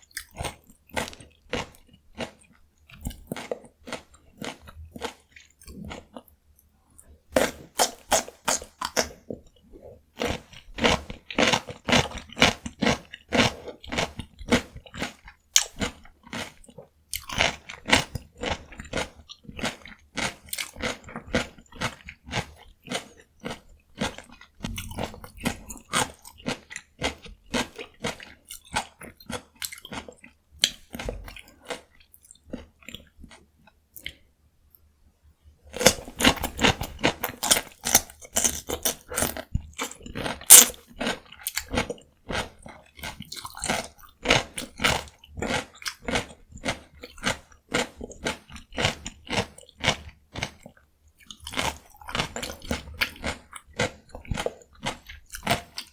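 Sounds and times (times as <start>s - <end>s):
crunching and chewing cucumber: 0.0s - 34.3s, 35.7s - 55.9s.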